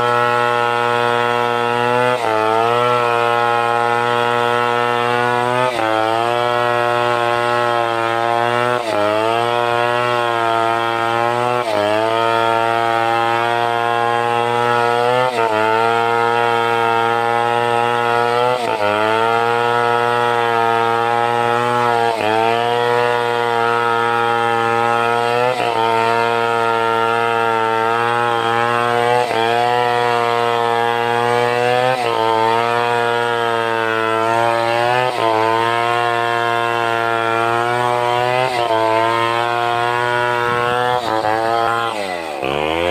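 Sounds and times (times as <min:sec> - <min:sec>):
chainsaw cutting timber: 0:00.0 - 0:42.9.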